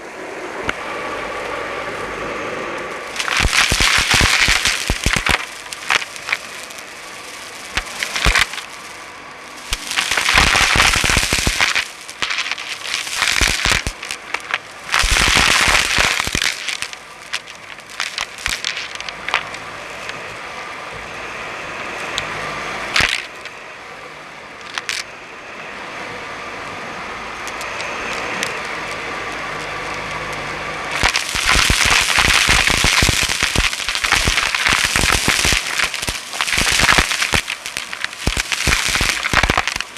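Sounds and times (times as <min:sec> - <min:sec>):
debris crackling through vacuum: 0:00.0 - 0:23.6, 0:24.6 - 0:25.1, 0:30.8 - 0:39.9.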